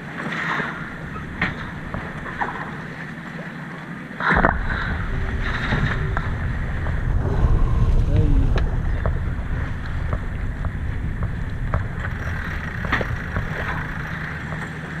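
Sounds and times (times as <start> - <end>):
water rushing past boat: 0.0 - 15.0
wind on microphone: 0.8 - 3.1, 4.4 - 15.0.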